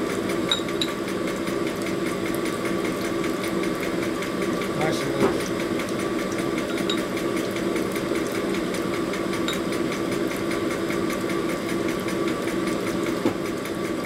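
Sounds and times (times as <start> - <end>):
motor-driven hone running: 0.0 - 14.0.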